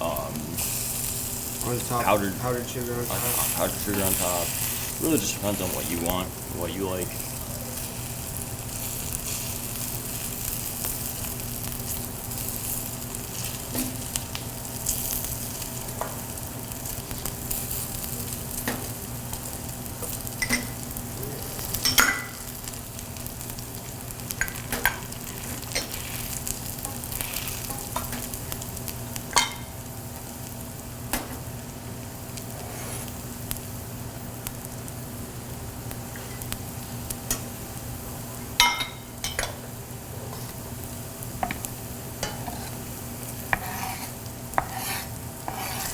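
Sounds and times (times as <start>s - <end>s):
pancakes sizzling in a pan: 0.0s - 45.9s.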